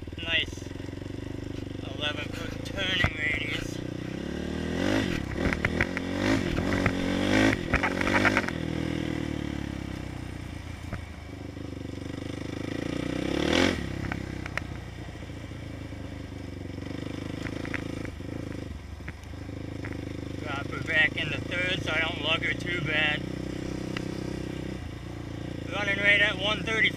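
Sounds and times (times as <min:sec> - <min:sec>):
quad bike engine revving: 0:00.0 - 0:26.9.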